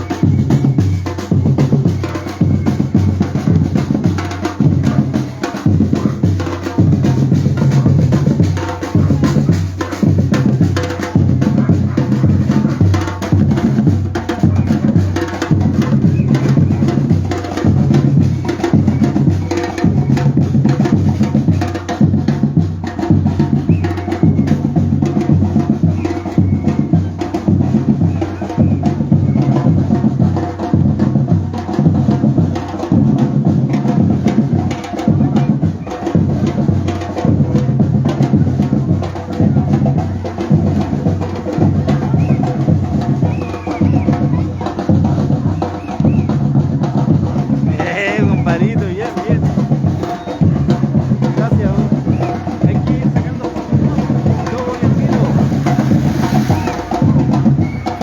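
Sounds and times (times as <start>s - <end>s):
deep bass drums: 0.0s - 58.0s.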